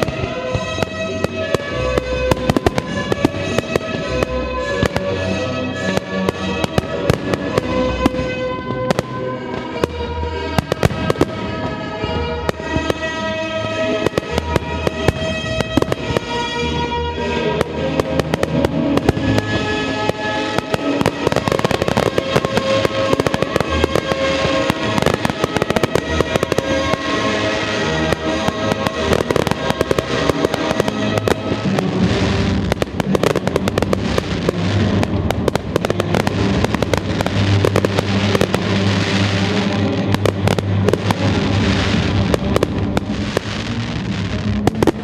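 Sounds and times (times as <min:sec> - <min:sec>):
fireworks bangs and crackles: 0:00.0 - 0:45.0
music with sustained notes: 0:00.0 - 0:45.0.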